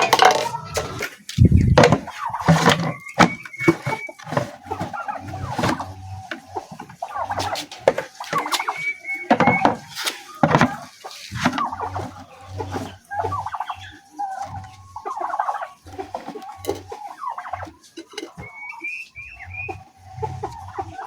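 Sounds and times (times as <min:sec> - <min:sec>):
poultry clucking: 0:00.0 - 0:21.0.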